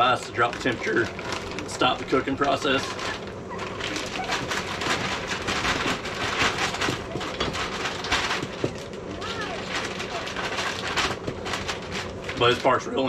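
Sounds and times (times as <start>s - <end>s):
frozen corn pouring into pot: 0.0s - 12.8s
plastic bag crinkling: 0.0s - 13.0s.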